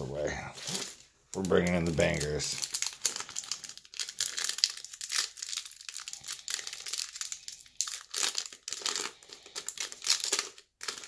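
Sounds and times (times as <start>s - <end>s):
foil wrapper crinkling: 0.6s - 11.0s.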